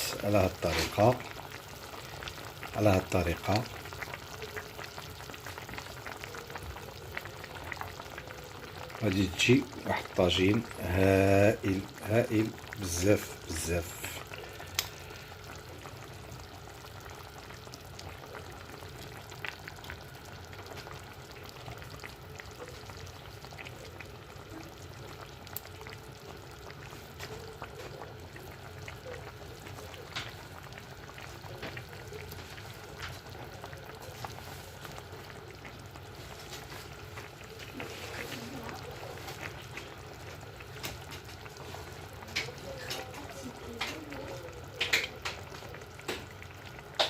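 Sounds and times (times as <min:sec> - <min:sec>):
food sizzling while frying: 0:00.0 - 0:47.0
small pops and crackles: 0:03.4 - 0:08.9, 0:13.7 - 0:47.0.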